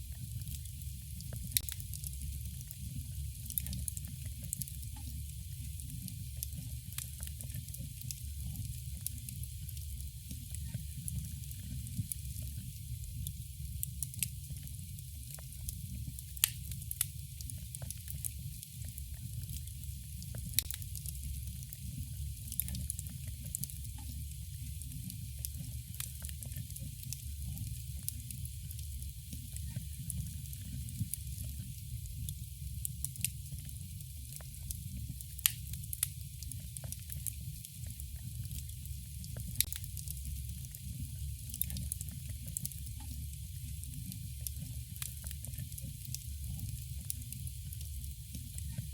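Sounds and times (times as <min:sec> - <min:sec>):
campfire crackling: 0:00.1 - 0:31.6, 0:32.3 - 0:48.9.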